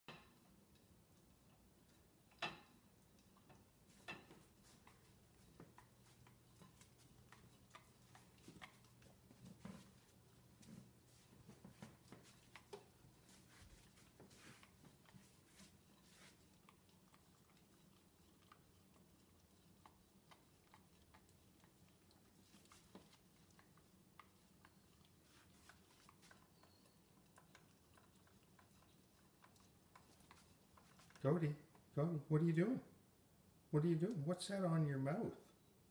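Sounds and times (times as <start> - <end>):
dog licking plates: 0.3 - 31.9.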